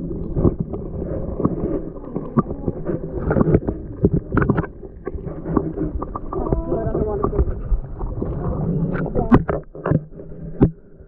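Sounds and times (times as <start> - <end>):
muffled underwater water rumble: 0.0 - 11.0.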